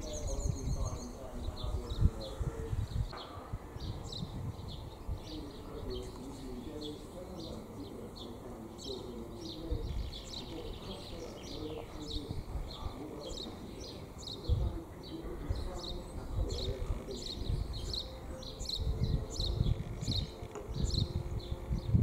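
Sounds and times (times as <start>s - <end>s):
small birds chirping: 0.0s - 22.0s
wind rumbling on microphone: 0.0s - 22.0s.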